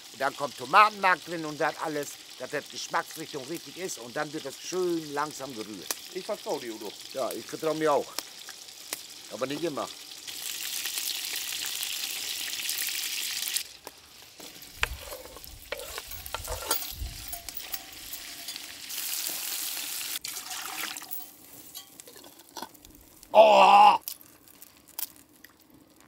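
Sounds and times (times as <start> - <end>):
meatballs sizzling in a pot: 0.0 - 23.4.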